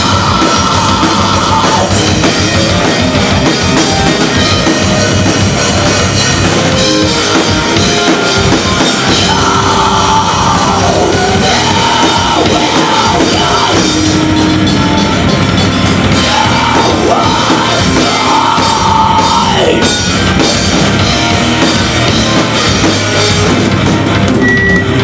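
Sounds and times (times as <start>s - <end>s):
bass guitar: 0.0s - 25.0s
drum kit: 0.0s - 25.0s
electric guitars: 0.0s - 25.0s
keyboard: 0.0s - 25.0s.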